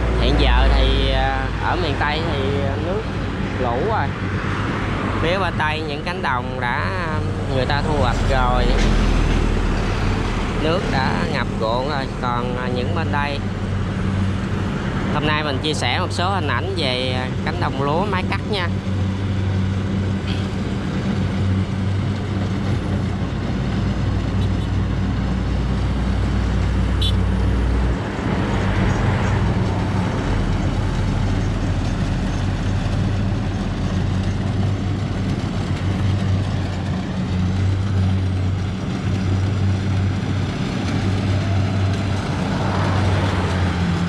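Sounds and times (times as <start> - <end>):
traffic engine drone: 0.0 - 44.0
vehicle passing: 0.0 - 44.0.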